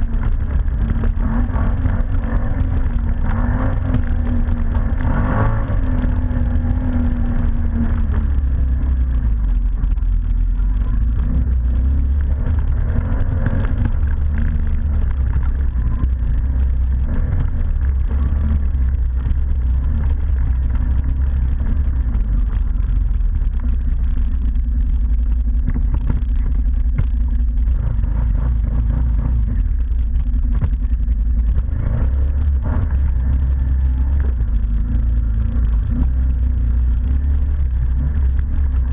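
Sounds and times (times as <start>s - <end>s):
atv engine rumbling: 0.0s - 38.9s.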